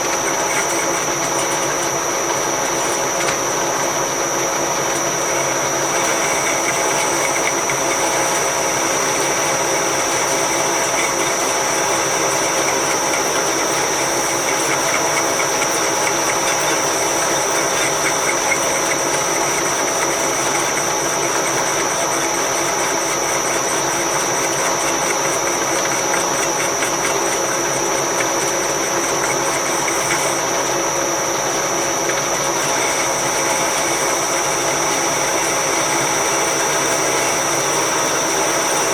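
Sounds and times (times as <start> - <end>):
metal lathe running with whine: 0.0 - 38.9.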